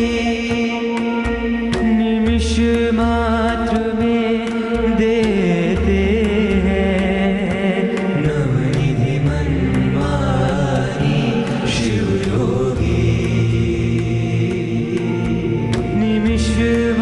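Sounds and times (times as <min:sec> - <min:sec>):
devotional melody: 0:00.0 - 0:17.0.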